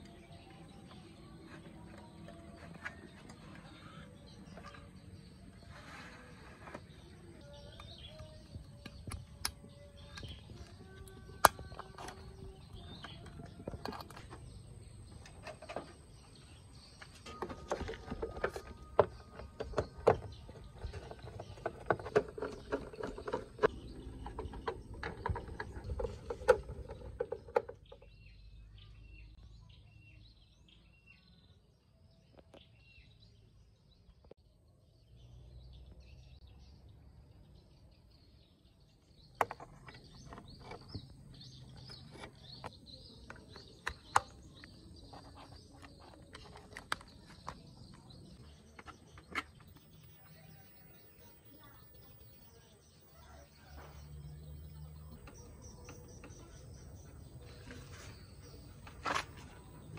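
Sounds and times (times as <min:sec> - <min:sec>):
birds chirping: 0:00.0 - 0:34.6, 0:35.2 - 0:59.9.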